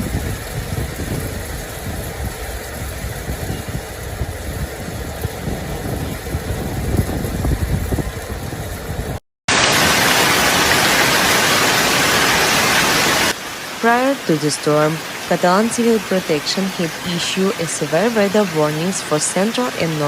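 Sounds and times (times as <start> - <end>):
heavy hail or rain downpour: 0.0 - 20.0.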